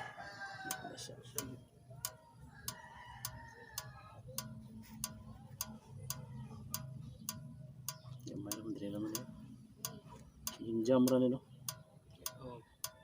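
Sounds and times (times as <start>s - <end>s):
sharp regular ticking: 0.7s - 13.0s.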